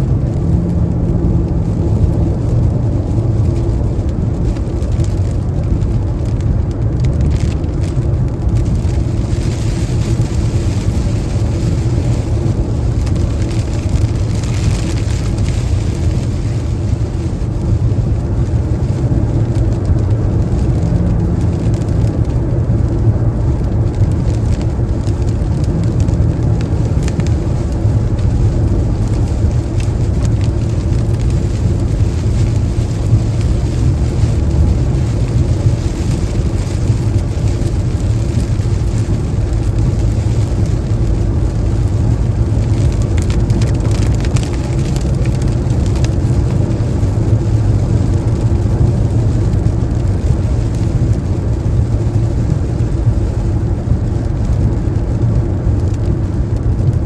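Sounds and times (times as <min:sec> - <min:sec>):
car road rumble: 0:00.0 - 0:57.0
rain: 0:00.0 - 0:57.0.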